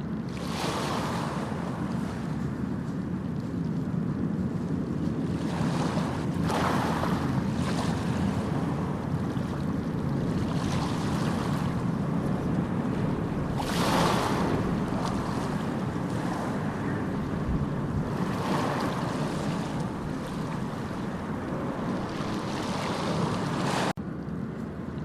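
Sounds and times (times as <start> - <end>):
sea waves breaking: 0.0 - 24.0.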